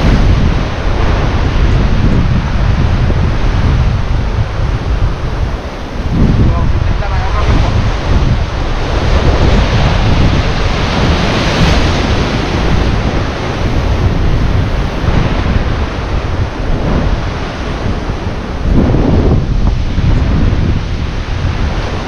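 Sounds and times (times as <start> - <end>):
sea waves breaking: 0.0 - 22.0
wind buffeting microphone: 0.0 - 22.0.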